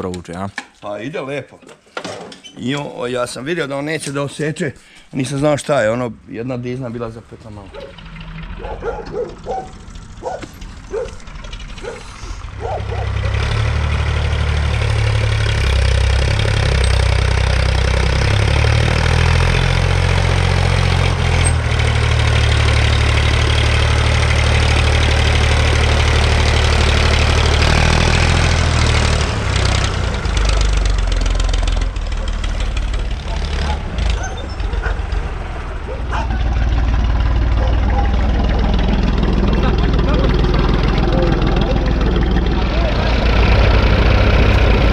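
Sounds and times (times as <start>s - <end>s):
tractor diesel engine running: 5.2s - 44.9s.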